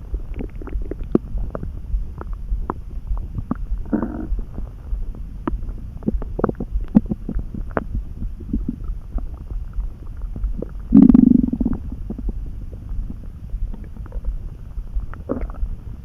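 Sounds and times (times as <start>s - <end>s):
stomach growl: 0.0s - 16.0s
stomach gurgling and rumbling: 0.0s - 16.0s.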